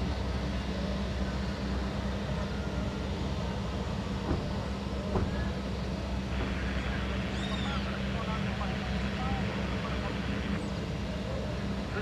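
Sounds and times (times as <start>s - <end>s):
jet engines rumbling at taxi: 0.0s - 12.0s.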